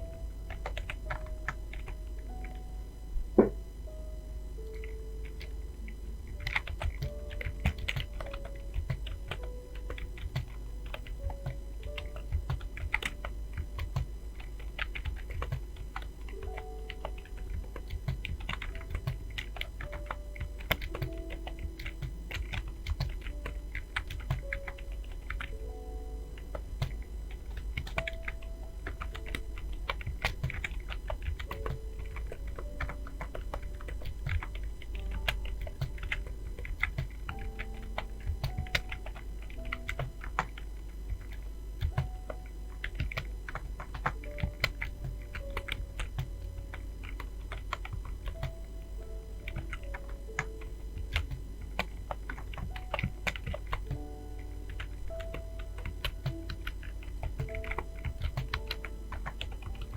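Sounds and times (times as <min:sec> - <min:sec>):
typing on computer keyboard: 0:00.0 - 0:02.6, 0:06.3 - 0:25.8, 0:26.4 - 0:59.9
soft background music: 0:00.0 - 0:59.9.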